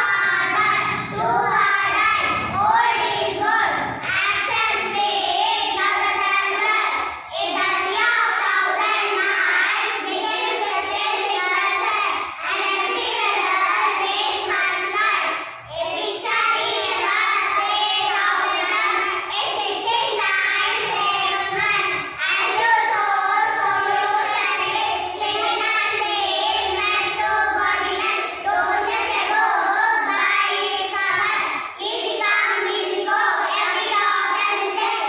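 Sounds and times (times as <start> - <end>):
girls chanting in unison: 0.0 - 35.0.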